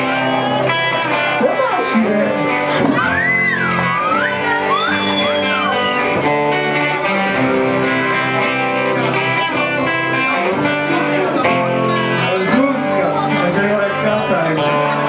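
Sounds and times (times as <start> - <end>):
rock band playing: 0.0 - 15.0
sliding lead guitar melody: 0.0 - 15.0.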